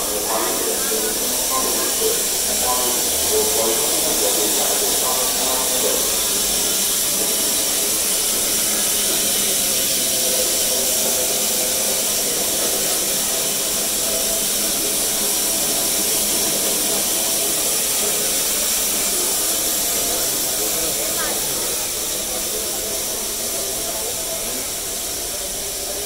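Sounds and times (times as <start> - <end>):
steam hissing loudly: 0.0 - 26.0.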